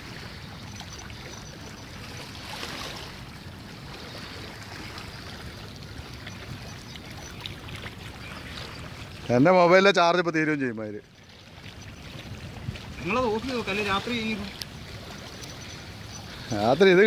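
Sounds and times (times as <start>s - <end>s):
sea water washing: 0.0s - 17.0s.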